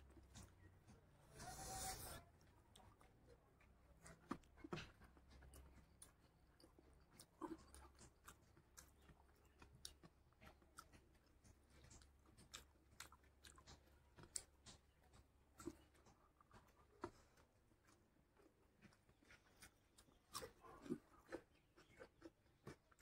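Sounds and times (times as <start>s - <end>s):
chewing smacks: 0.1s - 23.0s.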